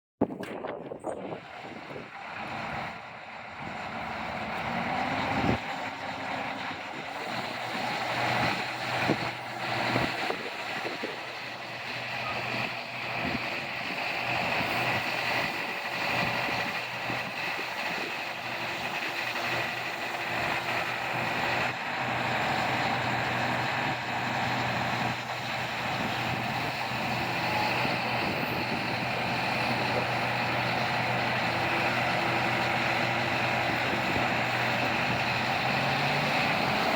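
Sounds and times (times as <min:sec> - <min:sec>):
wind on microphone: 0:00.2 - 0:02.9, 0:03.6 - 0:18.2, 0:22.4 - 0:36.9
excavator diesel engine running: 0:00.3 - 0:36.9.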